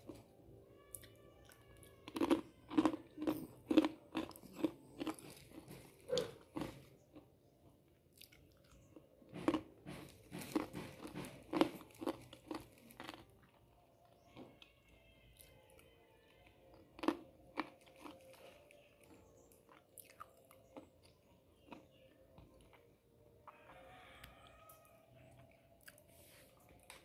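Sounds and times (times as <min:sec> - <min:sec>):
crunchy snack being eaten: 0:00.9 - 0:07.3, 0:08.1 - 0:14.8, 0:16.7 - 0:27.0.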